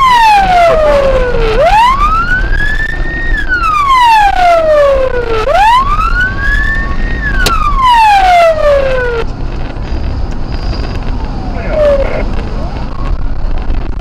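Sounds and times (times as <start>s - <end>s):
police siren wailing: 0.0s - 9.3s, 10.7s - 13.9s
road noise: 0.0s - 14.0s.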